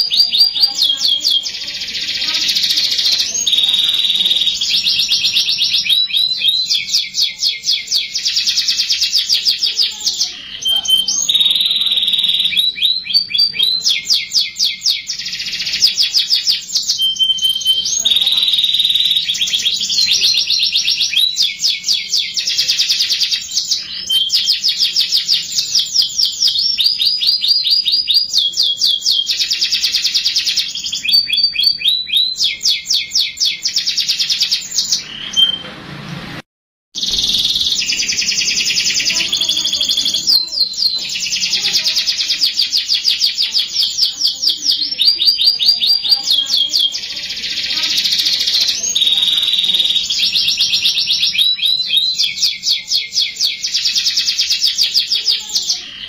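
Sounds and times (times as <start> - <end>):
canary singing trills: 0.0 - 35.8, 37.0 - 56.0.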